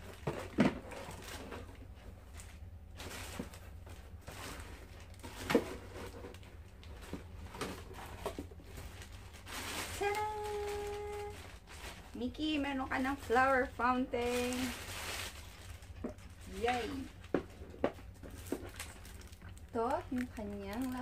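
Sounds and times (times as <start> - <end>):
cardboard and plastic rustling: 0.0 - 21.0.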